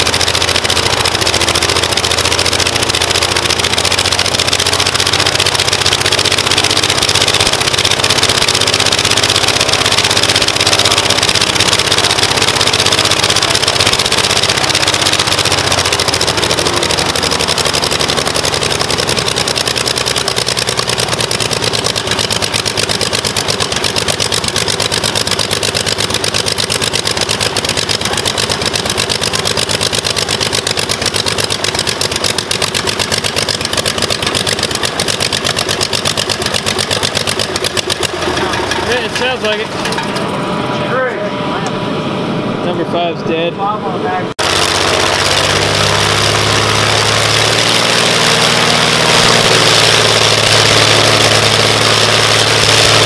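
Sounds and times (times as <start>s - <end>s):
aircraft engine running: 0.0s - 53.0s.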